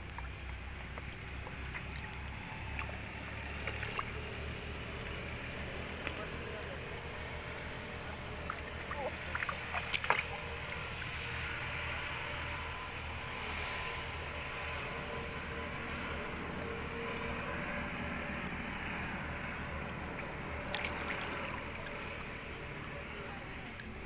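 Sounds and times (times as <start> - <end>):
pond water sloshing: 0.0 - 24.0.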